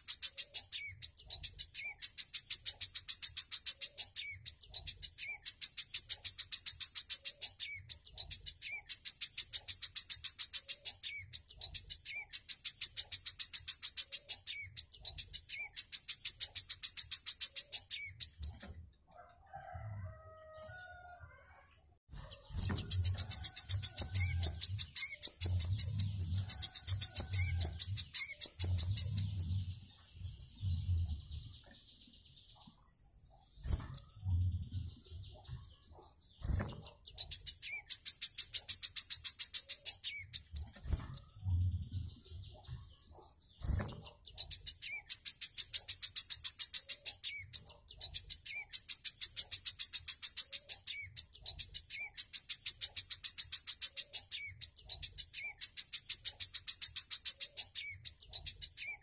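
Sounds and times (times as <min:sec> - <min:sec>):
sunbird trilling song: 0:00.0 - 0:18.8, 0:22.2 - 0:32.8, 0:33.4 - 0:41.4, 0:42.1 - 0:59.0.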